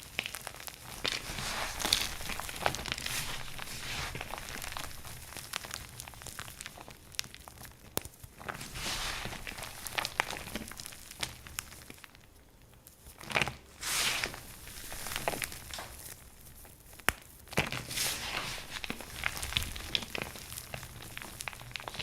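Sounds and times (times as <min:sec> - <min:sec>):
dried soap crunching: 0:00.0 - 0:22.0.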